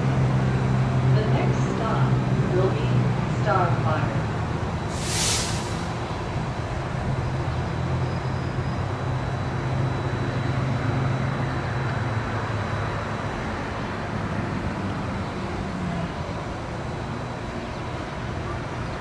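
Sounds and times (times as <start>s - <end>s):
train low hum: 0.0s - 19.0s.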